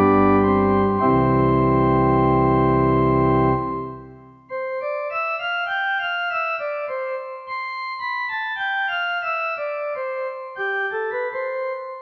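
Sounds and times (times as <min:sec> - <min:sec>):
pipe organ melody: 0:00.0 - 0:12.0.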